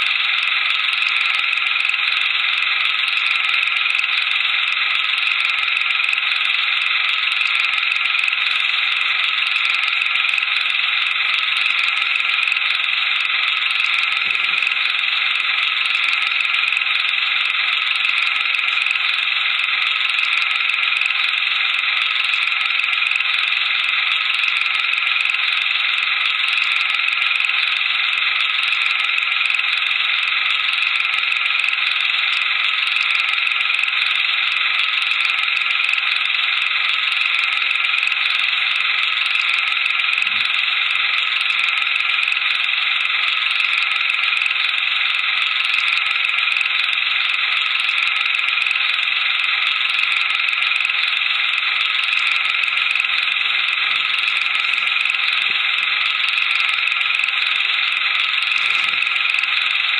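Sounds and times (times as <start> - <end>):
film projector whirring and rattling: 0.0 - 59.9.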